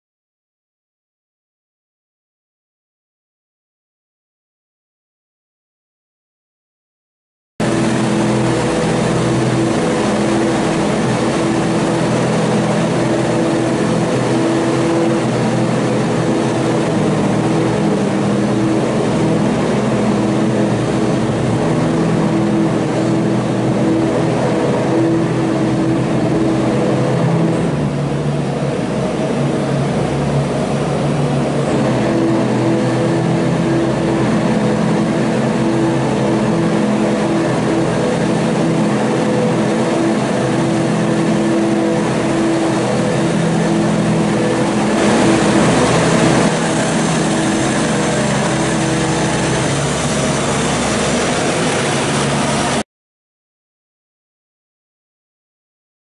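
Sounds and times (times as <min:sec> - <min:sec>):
diesel engine running under load: 0:07.6 - 0:52.8
sawdust spreader working: 0:07.6 - 0:52.8.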